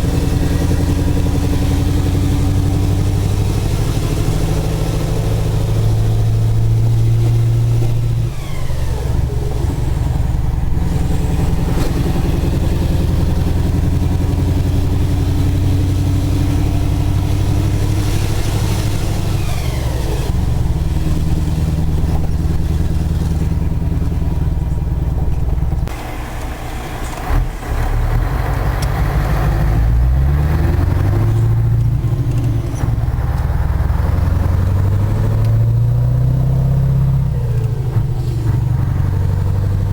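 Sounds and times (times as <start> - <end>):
truck diesel engine under load: 0.0 - 39.9.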